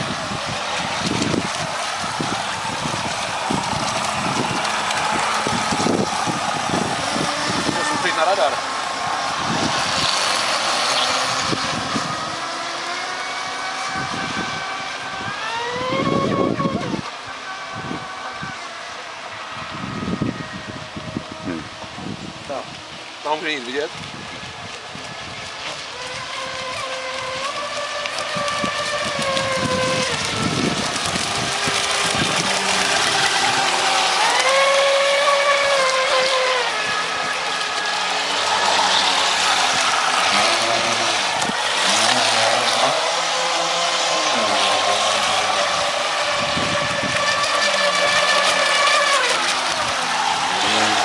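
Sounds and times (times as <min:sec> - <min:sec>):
model boat motor whining: 0:00.0 - 0:51.0.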